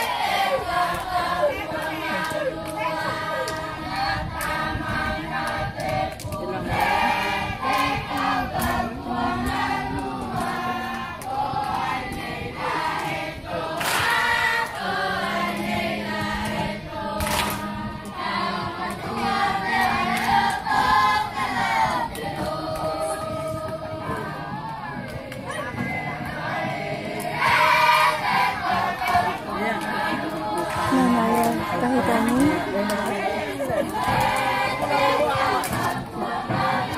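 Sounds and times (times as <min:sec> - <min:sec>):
children singing in chorus: 0:00.0 - 0:36.9.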